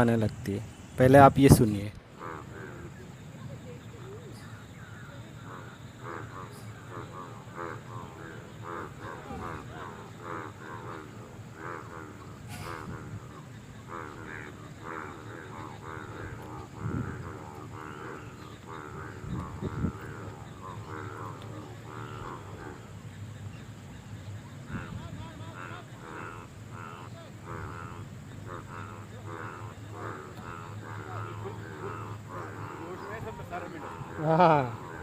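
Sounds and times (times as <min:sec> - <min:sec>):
frogs croaking: 0:00.0 - 0:35.0.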